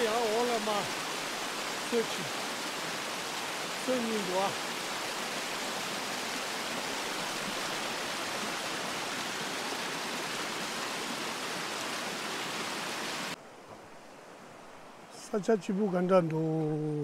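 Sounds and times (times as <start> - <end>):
creek water rushing over rocks: 0.0 - 16.6.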